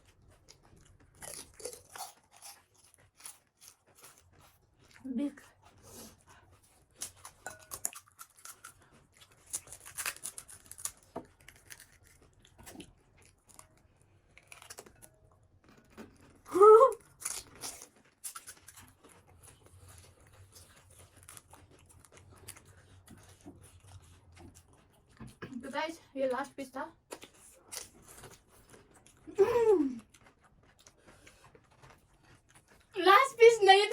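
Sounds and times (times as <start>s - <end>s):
crisp shells crunching when chewed: 0.0s - 25.5s, 27.0s - 33.0s.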